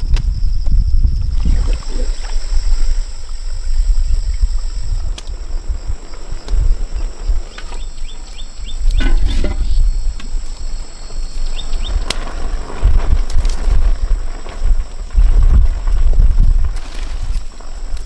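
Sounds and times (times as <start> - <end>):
insects droning: 0.0 - 18.0
wind buffeting microphone: 0.0 - 18.0.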